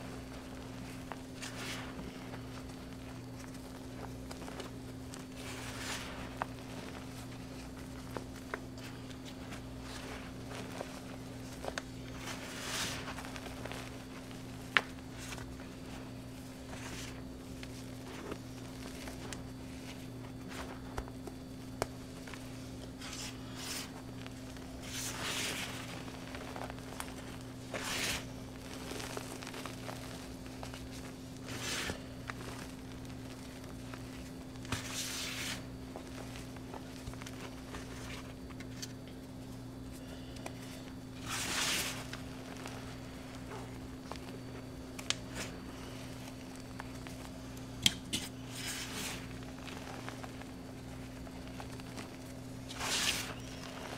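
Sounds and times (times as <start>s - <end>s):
hands crumbling powder: 0.0s - 53.9s
steady low hum: 0.0s - 53.9s.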